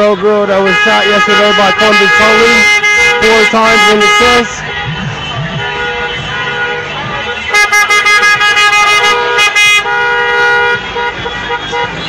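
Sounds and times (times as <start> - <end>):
car horns honking: 0.0 - 12.0.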